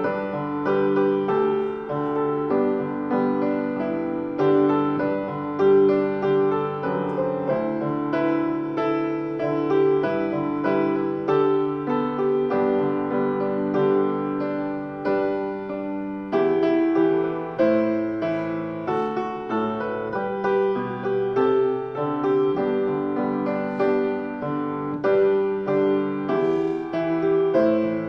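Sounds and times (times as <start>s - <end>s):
slow solo piano chords: 0.0s - 28.0s.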